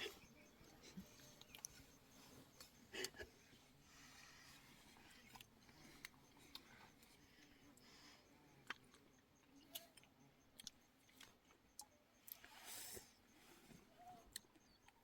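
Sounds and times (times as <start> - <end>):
faint clicks and ticks: 0.0 - 3.5, 4.1 - 15.0.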